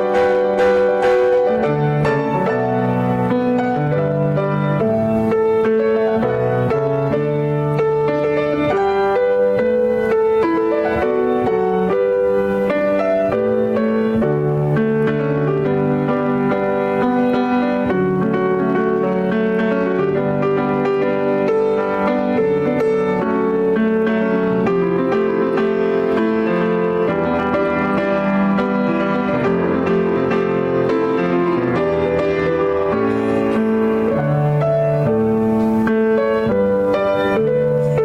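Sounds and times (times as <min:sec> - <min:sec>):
piano chords: 0:00.0 - 0:38.0.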